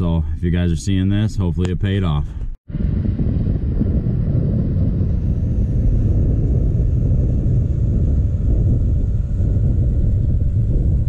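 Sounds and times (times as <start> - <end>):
snowmobile engine rumbling: 0.0 - 11.0.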